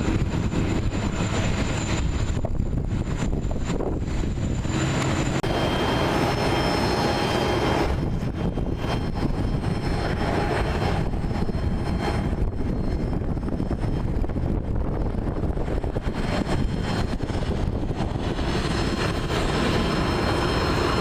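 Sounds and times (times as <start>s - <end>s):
jet engine rumble: 0.0s - 21.0s.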